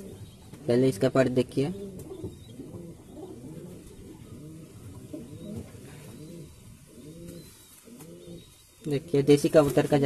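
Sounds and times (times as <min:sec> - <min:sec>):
pigeons cooing: 0:00.0 - 0:00.7, 0:01.5 - 0:10.0.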